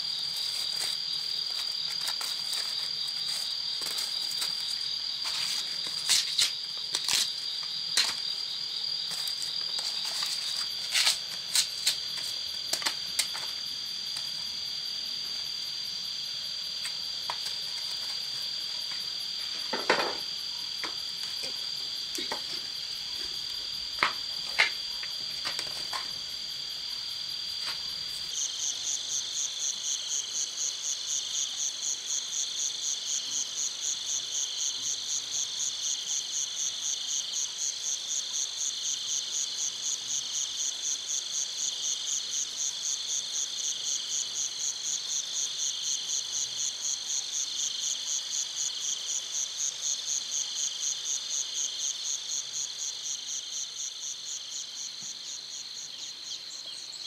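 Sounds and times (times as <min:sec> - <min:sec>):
lower insect calls: 0:00.0 - 0:57.0
rapidly pulsing high insect trill: 0:00.0 - 0:57.0.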